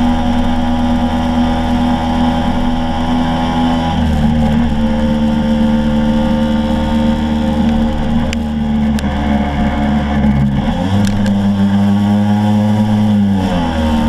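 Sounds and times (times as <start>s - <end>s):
road and wind noise: 0.0s - 14.0s
scooter engine running: 0.0s - 14.0s.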